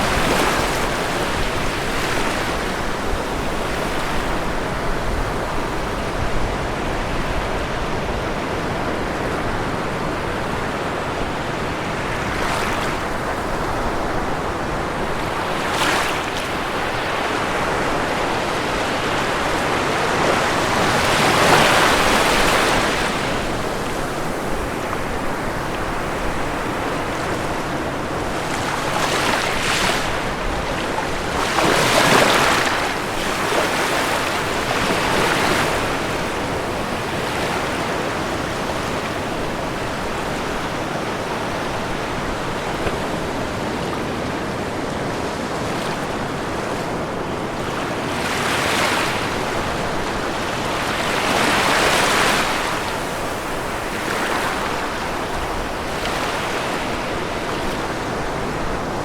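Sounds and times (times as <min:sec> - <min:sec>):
ocean waves crashing: 0:00.0 - 0:59.0
steady surf wash: 0:00.0 - 0:59.0.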